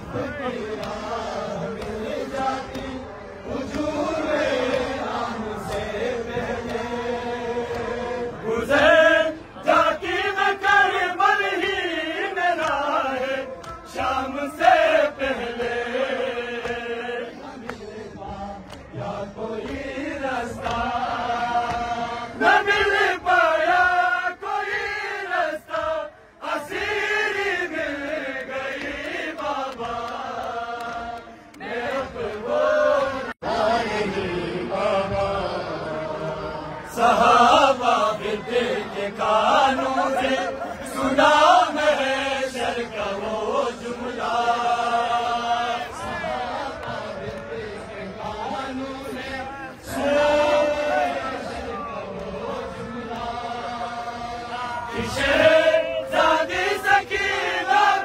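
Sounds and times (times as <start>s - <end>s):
men chanting a lament: 0.0s - 58.0s.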